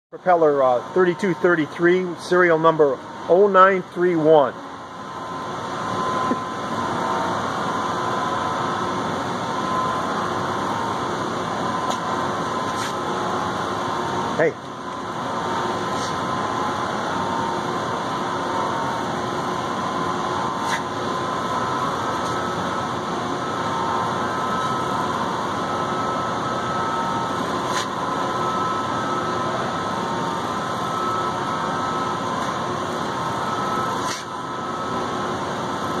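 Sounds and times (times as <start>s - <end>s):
machinery hum and hiss: 0.2s - 36.0s.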